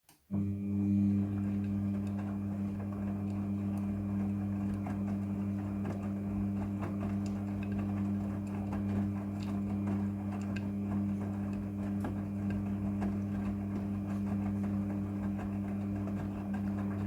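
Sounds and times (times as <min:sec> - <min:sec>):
washing machine motor hum: 0:00.2 - 0:17.0.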